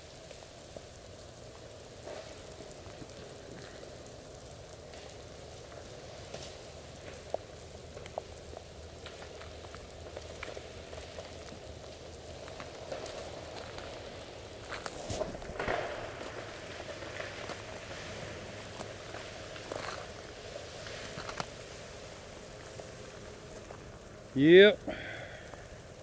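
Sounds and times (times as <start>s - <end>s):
freezing rain crackling hiss: 0.0s - 26.0s
small ticks: 0.0s - 26.0s.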